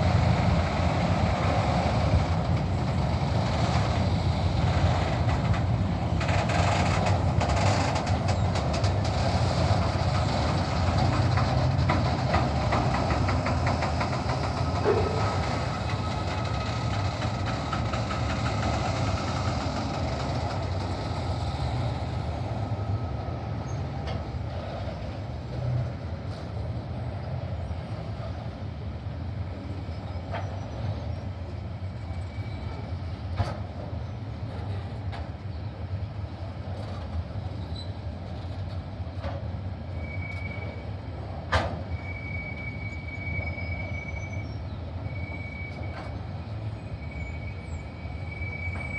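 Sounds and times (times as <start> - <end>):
train low rumble: 0.0 - 48.9
train wheels clicking over rail joints: 0.0 - 48.9.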